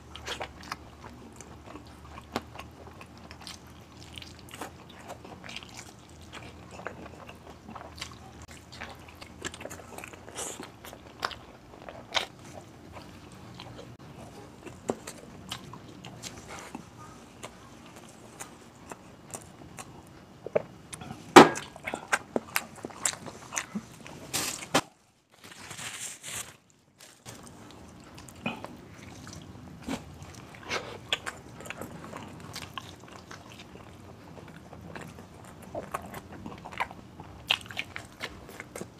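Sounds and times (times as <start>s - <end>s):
chewing and lip-smacking: 0.0s - 24.2s, 27.2s - 38.9s.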